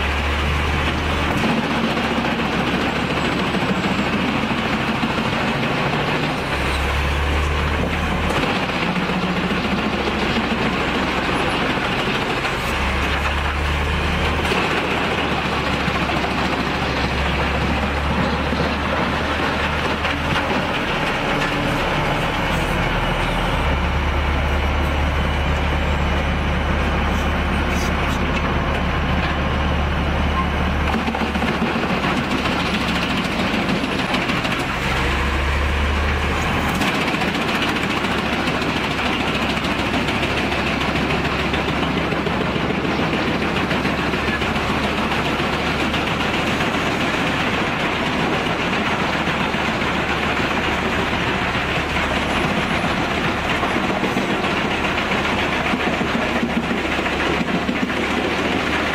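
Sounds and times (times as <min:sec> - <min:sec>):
wood chipper grinding: 0:00.0 - 0:58.9.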